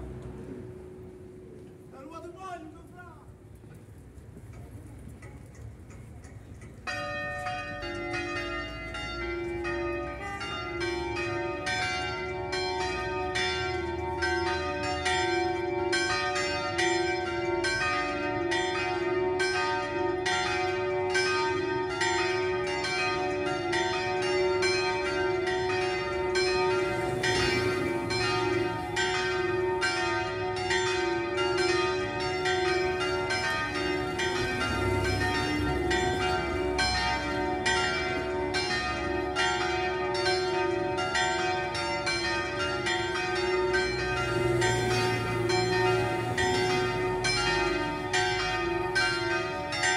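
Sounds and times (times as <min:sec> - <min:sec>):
church bells pealing: 0:00.0 - 0:02.7, 0:06.8 - 0:49.9.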